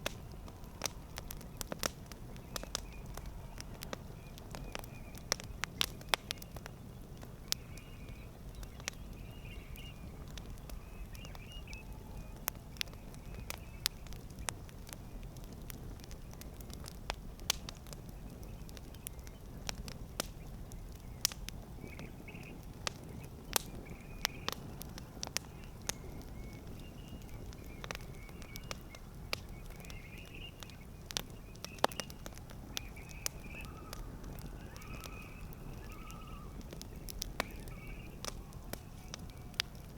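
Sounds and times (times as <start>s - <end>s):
burning wood popping: 0.0s - 39.9s
low rumble of flames: 0.0s - 39.9s.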